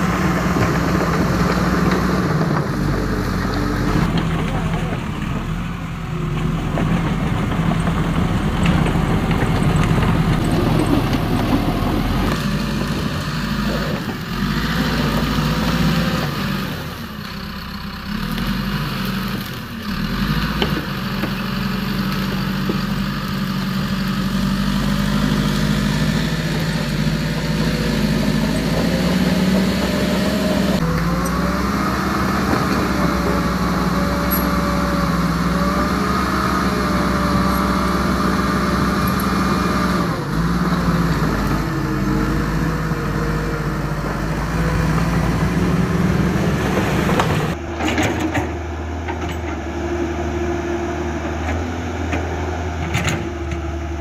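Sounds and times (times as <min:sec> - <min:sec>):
engine hum with whining tones: 0:00.0 - 0:54.0.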